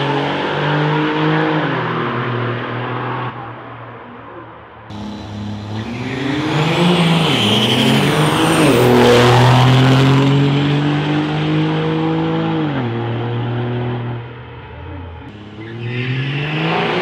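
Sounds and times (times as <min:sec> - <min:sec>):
diesel trucks racing at full throttle: 0:00.0 - 0:17.0.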